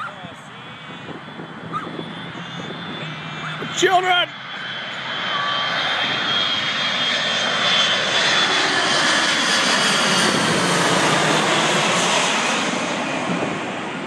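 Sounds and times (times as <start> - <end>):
high engine whine: 0.0 - 14.0
jet airliner flying overhead: 0.0 - 14.0.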